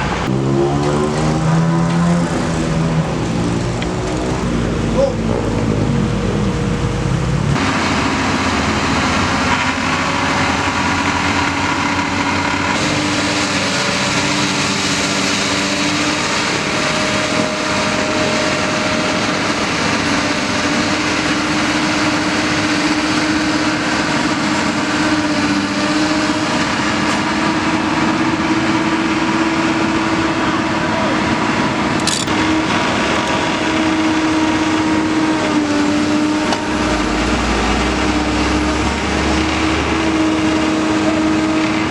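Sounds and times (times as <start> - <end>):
excavator diesel engine running: 0.9 - 41.9
steady whine: 1.7 - 41.9.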